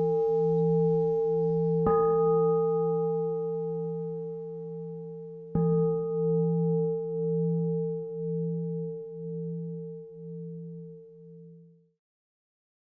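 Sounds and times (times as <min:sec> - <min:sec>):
singing bowl ringing: 0:00.0 - 0:11.7.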